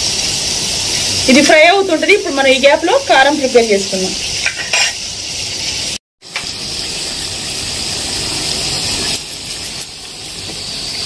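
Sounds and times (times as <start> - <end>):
vegetable sizzling in hot oil: 0.0 - 11.0.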